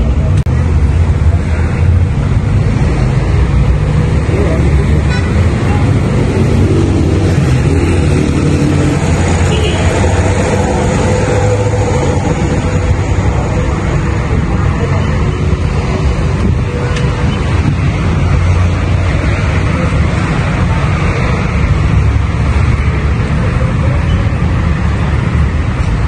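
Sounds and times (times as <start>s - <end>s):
low traffic rumble: 0.0s - 26.0s.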